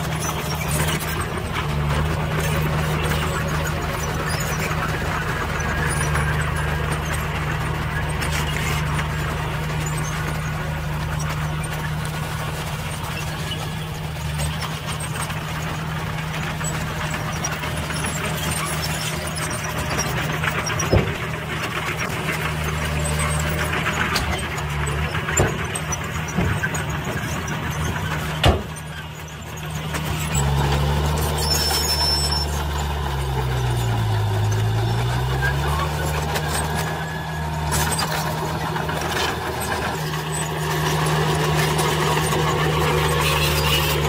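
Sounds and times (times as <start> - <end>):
diesel truck engine running: 0.0 - 44.0
soil being dumped: 0.0 - 44.0.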